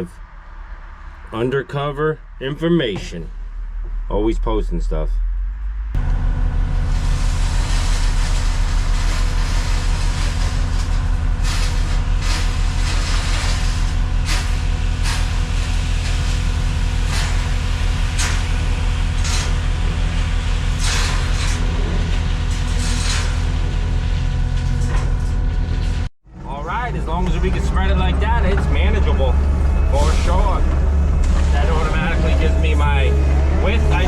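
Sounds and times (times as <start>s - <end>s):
diesel engine running: 2.2s - 34.0s.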